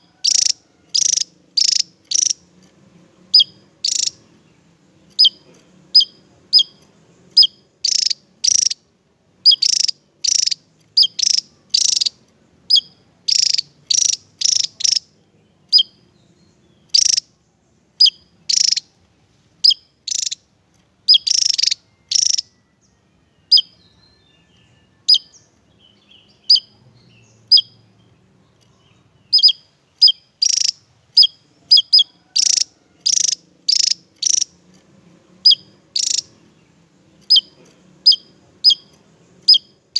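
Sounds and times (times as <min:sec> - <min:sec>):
bird singing high clear notes: 0:00.0 - 0:02.4, 0:03.3 - 0:05.4, 0:06.0 - 0:08.8, 0:09.4 - 0:19.0, 0:19.6 - 0:34.6, 0:35.4 - 0:39.9.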